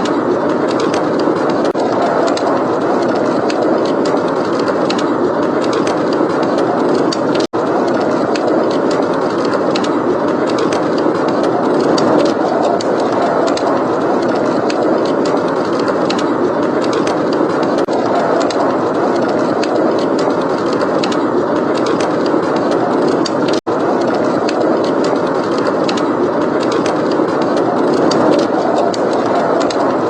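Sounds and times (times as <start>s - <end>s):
blizzard wind blowing: 0.0s - 30.0s.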